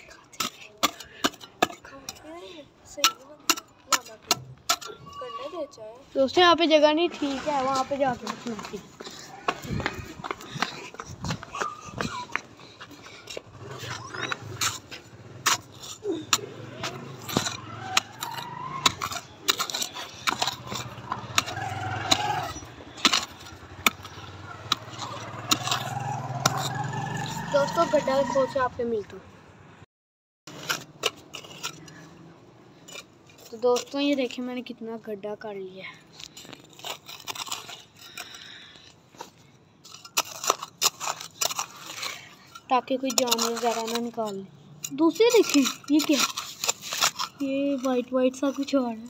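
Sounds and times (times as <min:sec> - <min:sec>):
digging tool scraping stony soil: 0:00.0 - 0:29.1, 0:30.5 - 0:49.0.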